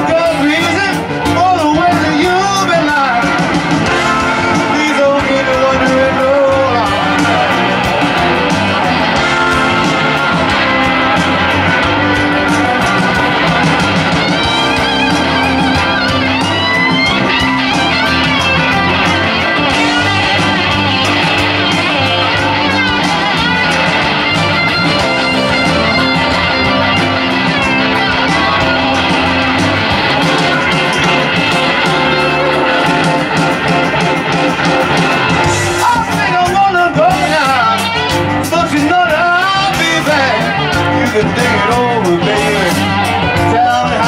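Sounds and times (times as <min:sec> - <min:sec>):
bass guitar: 0:00.0 - 0:44.0
electric guitar solo: 0:00.0 - 0:44.0
drums with cymbals: 0:00.3 - 0:44.0.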